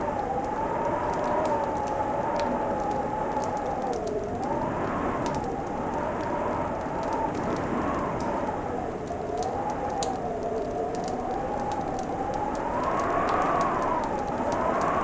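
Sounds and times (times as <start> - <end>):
fireplace crackling and popping: 0.0 - 15.0
low howl: 0.0 - 15.0.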